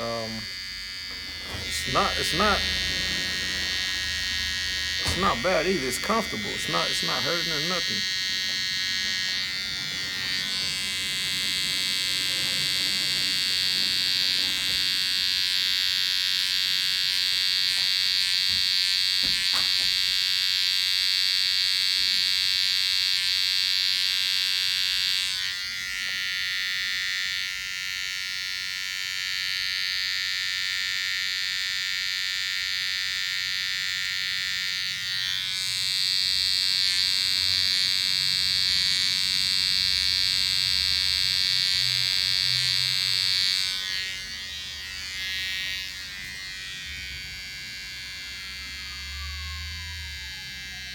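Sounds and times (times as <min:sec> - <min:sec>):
hair trimmer buzzing: 0:00.0 - 0:50.9.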